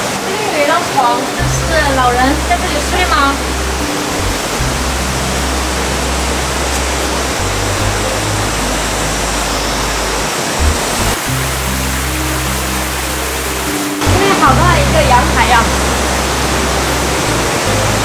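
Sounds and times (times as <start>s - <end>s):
mountain stream rushing: 0.0s - 18.0s
background music with bass notes: 1.4s - 18.0s.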